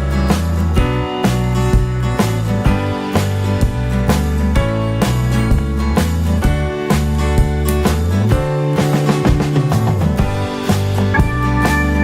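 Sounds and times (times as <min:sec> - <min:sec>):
pop music with guitar and beat: 0:00.0 - 0:12.0.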